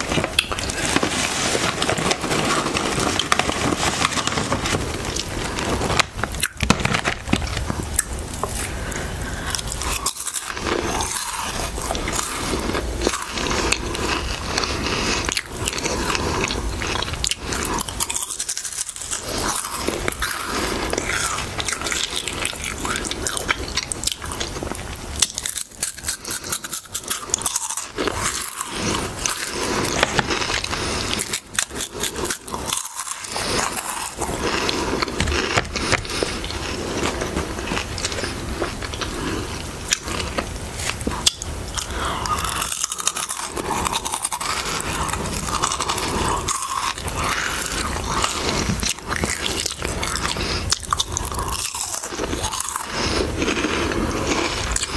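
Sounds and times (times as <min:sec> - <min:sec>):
crunching and chewing crisps: 0:00.0 - 0:54.9.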